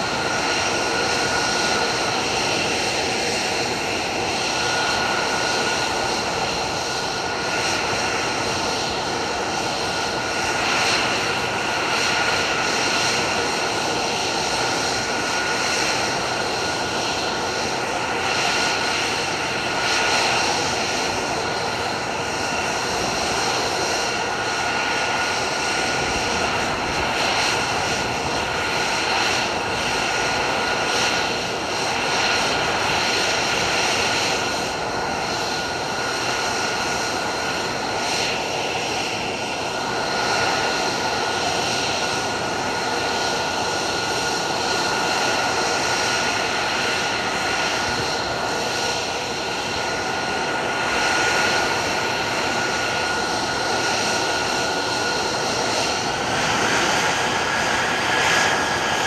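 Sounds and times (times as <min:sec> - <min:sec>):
jet engine rushing and whining: 0:00.0 - 0:59.0.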